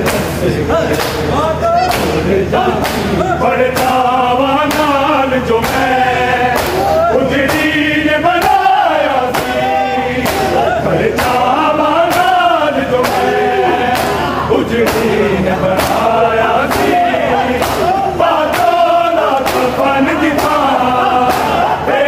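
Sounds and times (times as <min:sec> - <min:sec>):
men chanting a lament: 0:00.0 - 0:22.0.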